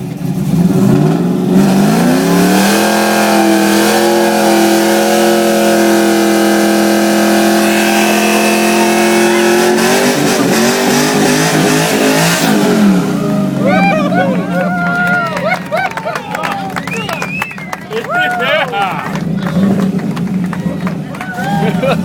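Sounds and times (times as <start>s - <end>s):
car engine revving high: 0.0s - 14.8s, 16.6s - 20.8s.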